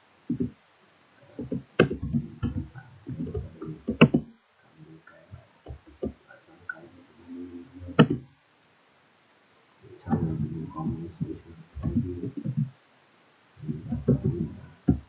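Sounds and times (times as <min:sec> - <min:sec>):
low irregular murmur: 0:00.0 - 0:15.0.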